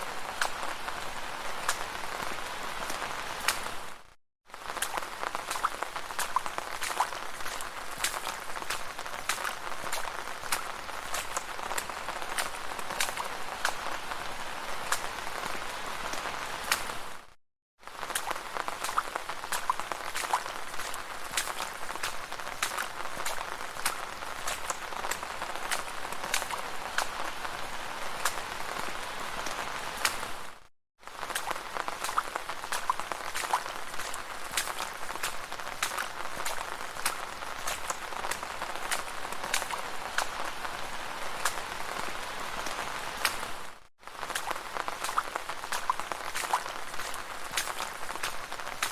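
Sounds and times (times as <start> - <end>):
rain falling on a street: 0.0 - 48.9.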